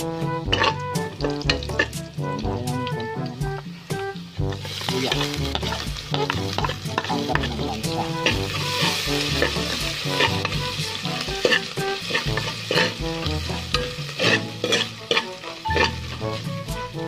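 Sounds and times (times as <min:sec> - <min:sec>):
garlic sizzling in oil: 0:00.0 - 0:17.0
spatula scraping a pot: 0:00.3 - 0:02.2, 0:04.6 - 0:16.7.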